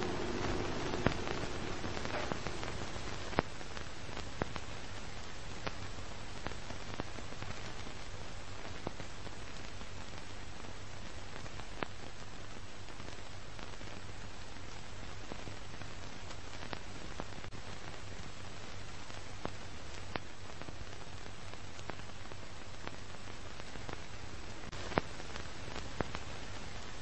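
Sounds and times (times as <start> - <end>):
faint low hum: 0.0 - 27.0
old film hiss and crackle: 0.0 - 27.0.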